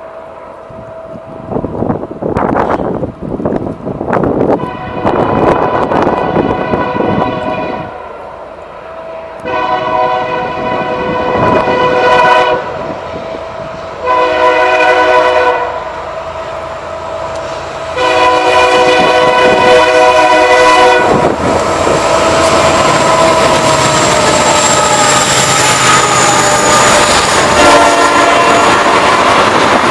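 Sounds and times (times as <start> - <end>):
train passing rumble: 0.0 - 29.9
locomotive air horn: 4.5 - 29.9.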